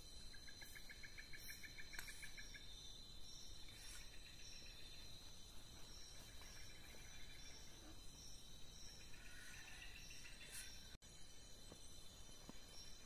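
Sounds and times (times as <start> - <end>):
insects whining: 0.0 - 13.0.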